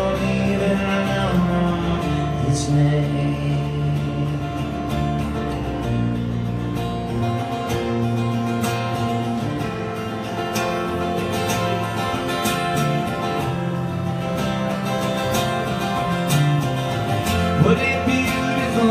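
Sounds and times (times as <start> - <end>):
acoustic guitar strumming: 0.0 - 18.9
bass guitar low notes: 0.0 - 18.9.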